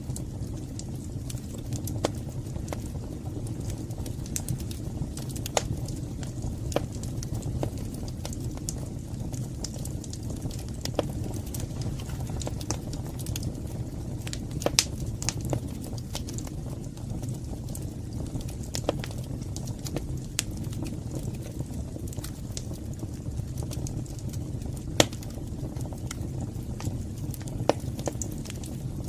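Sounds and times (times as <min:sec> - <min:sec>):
fire crackling in fireplace: 0:00.0 - 0:29.0.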